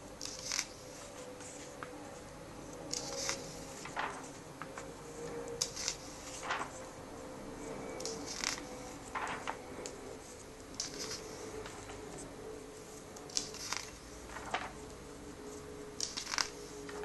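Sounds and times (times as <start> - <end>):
faint steady hum: 0.0 - 17.0
paper pages turning: 0.2 - 7.0, 7.6 - 17.0.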